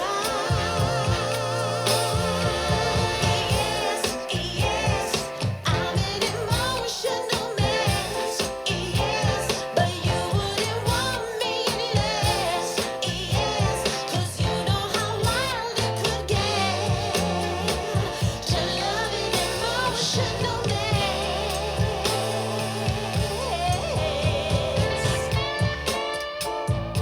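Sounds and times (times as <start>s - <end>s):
pop song over speaker: 0.0s - 27.0s.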